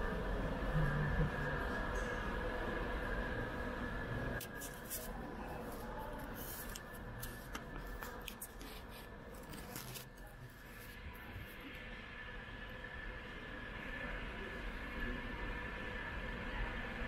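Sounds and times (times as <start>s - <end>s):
steady hum: 0.0s - 17.0s
thin high whine: 0.0s - 17.0s.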